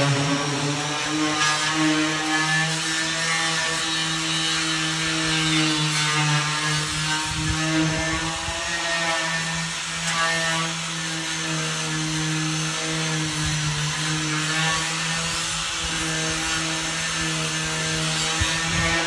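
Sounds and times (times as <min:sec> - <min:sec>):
concrete pump drone: 0:00.0 - 0:19.0.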